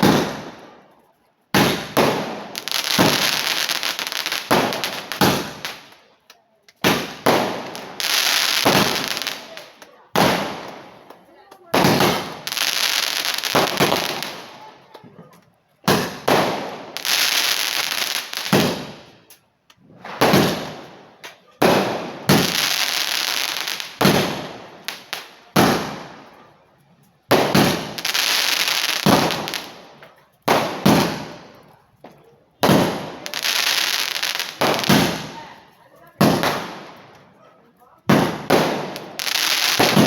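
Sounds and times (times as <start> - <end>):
fireworks bangs with hissing tails: 0.0 - 15.0, 15.8 - 40.0.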